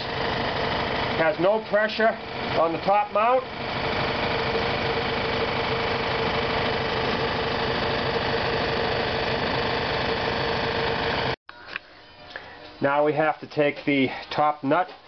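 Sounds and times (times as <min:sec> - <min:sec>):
motor running: 0:00.0 - 0:12.4.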